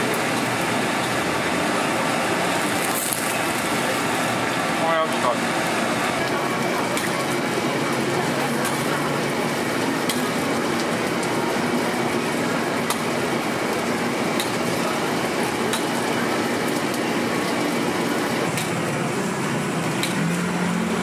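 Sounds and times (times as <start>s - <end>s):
street food stall ambience: 0.0s - 21.0s.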